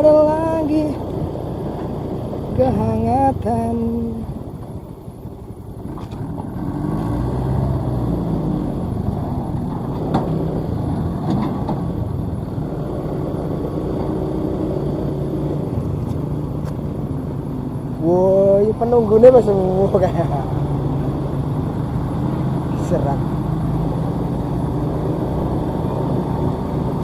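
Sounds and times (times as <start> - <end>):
combine harvester engine running: 0.0 - 27.0.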